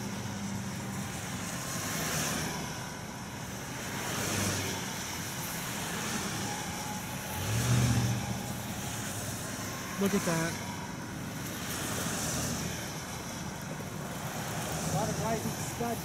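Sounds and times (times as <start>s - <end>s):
traffic on wet road: 0.0s - 16.0s.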